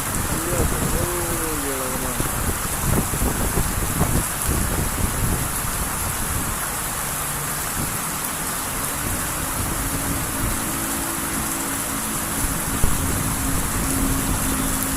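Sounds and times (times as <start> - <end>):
heavy rain pouring: 0.0 - 14.9
wind rumbling on microphone: 0.0 - 14.9.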